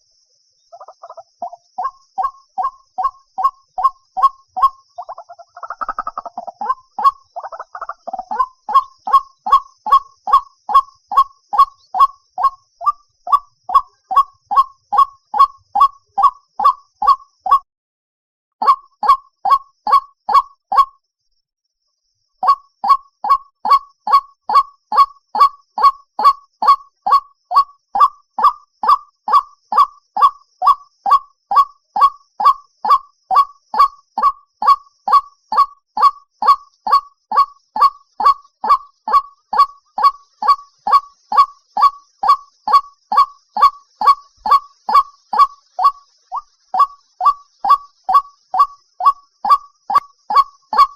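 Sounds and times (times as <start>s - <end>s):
waterhen calling short notes: 0.7s - 17.6s, 18.6s - 20.9s, 22.4s - 50.9s.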